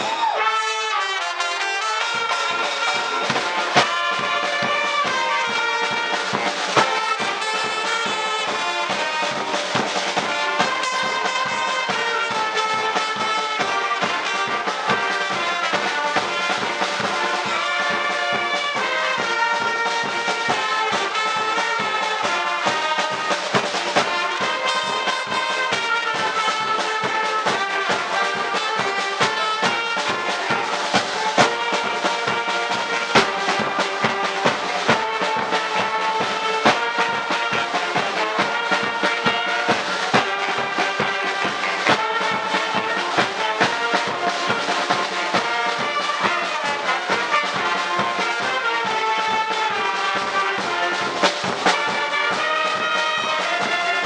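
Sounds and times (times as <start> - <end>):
brass band playing: 0.0 - 54.0
steady drum beat: 0.0 - 54.0
trumpets trombones and saxophones: 0.0 - 54.0.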